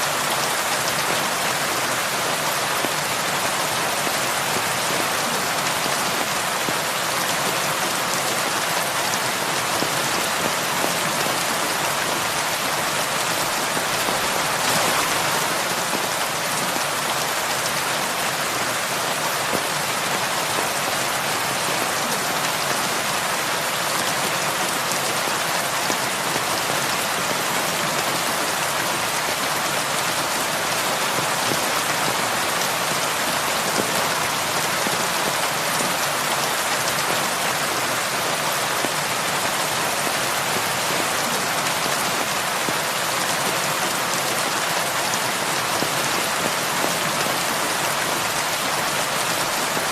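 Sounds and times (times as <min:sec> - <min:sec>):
heavy rain on a roof: 0:00.0 - 0:49.9.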